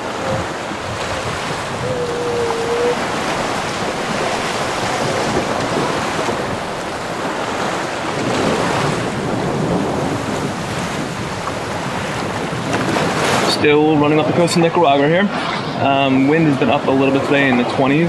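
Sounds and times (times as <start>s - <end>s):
water rushing past boat hull: 0.0s - 18.0s
wind buffeting microphone: 0.0s - 18.0s.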